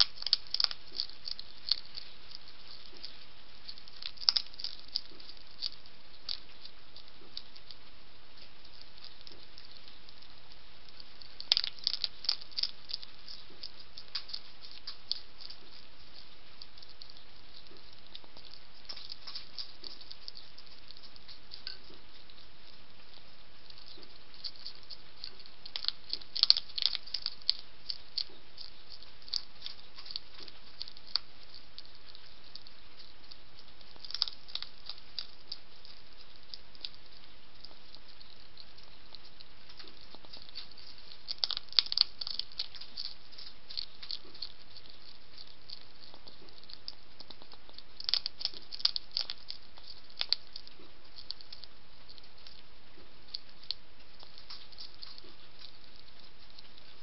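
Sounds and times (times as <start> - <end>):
hedgehog crunching dry kibble: 0.0 - 57.0.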